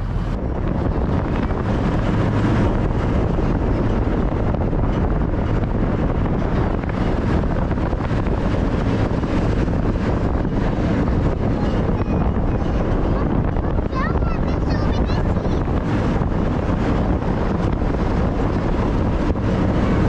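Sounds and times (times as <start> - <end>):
vehicle driving on road: 0.0 - 20.0
wind noise on microphone: 0.0 - 20.0.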